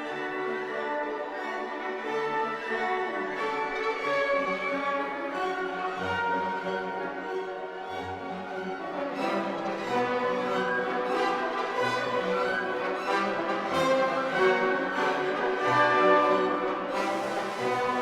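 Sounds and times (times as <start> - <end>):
orchestral strings slow notes: 0.0 - 18.0.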